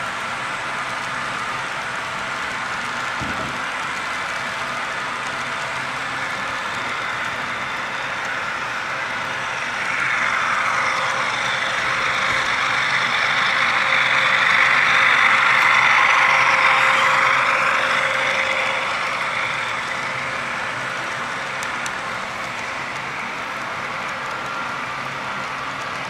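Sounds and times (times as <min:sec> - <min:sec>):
model train wheels rolling: 0:00.0 - 0:26.0.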